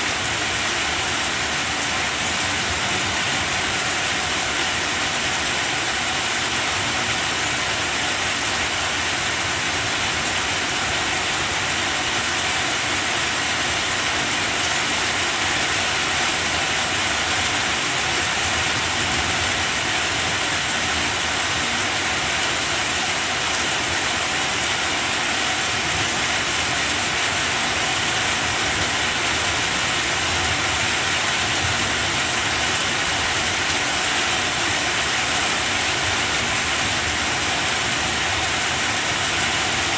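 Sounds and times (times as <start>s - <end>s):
rain falling on plants: 0.0s - 39.9s.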